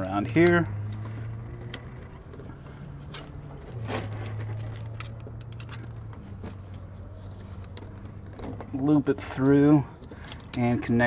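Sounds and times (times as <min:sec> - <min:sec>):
tire chain links clinking: 0:00.0 - 0:11.0.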